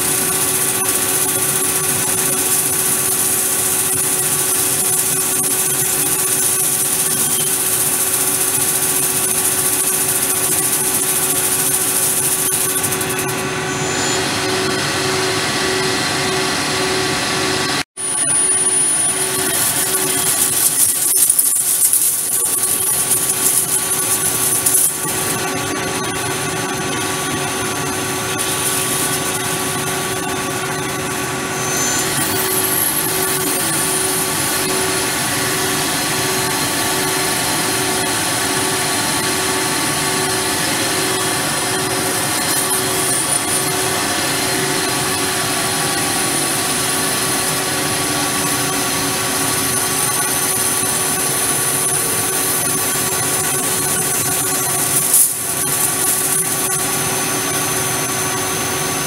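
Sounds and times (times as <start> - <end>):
lathe cutting metal whine: 0.0 - 59.0.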